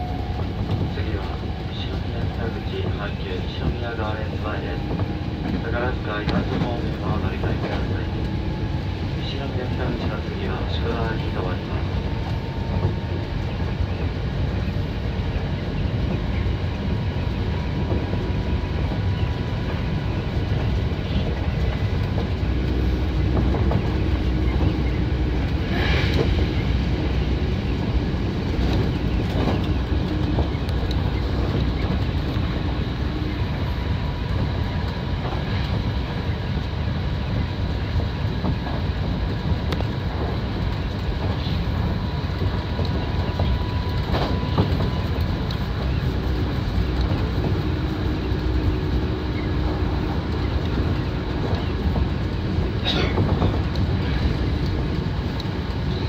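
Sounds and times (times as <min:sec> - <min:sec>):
rail joint clatter: 0:00.0 - 0:56.0
train wheels rumbling on rails: 0:00.0 - 0:56.0.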